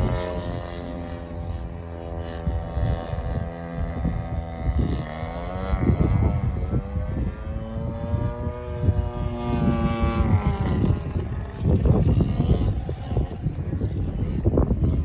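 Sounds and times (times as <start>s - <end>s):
model airplane motor droning: 0.0s - 15.0s
wind rumbling on microphone: 0.0s - 15.0s.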